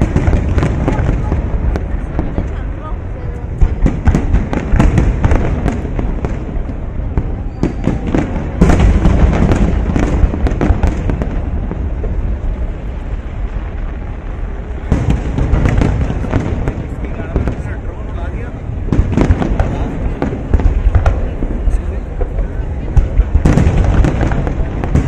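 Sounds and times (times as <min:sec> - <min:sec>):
continuous low rumble: 0:00.0 - 0:25.0
fireworks booms and cracks: 0:00.0 - 0:25.0.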